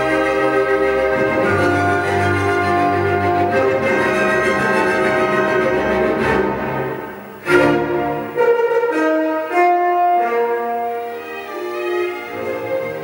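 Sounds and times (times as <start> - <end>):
orchestral music with strings: 0.0 - 13.0.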